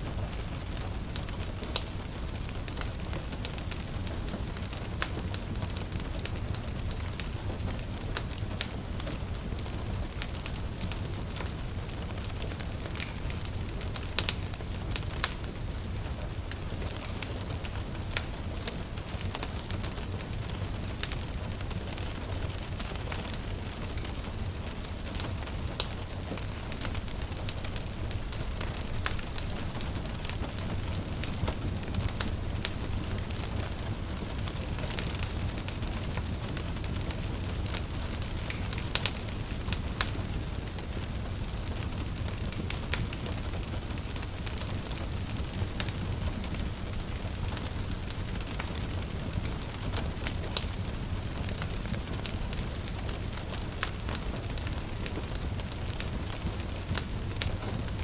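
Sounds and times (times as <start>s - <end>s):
gentle rain hiss: 0.0s - 58.0s
wood fire crackling: 0.0s - 58.0s.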